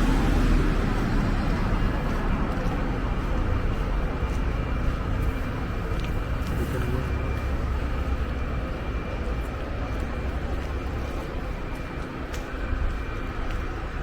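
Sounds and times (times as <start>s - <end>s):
rumble of passing road traffic: 0.0s - 14.0s.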